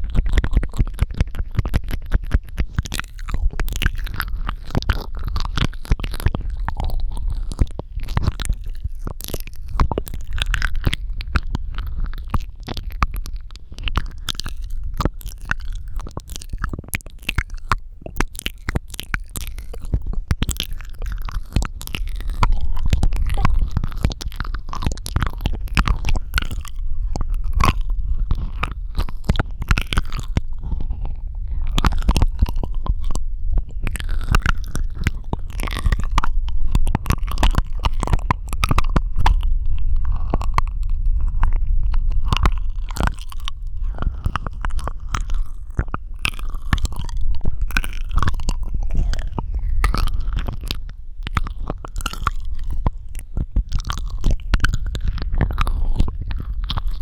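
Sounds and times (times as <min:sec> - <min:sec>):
low rumble: 0:00.0 - 0:57.0
wet mouth clicks and smacks: 0:00.0 - 0:57.0.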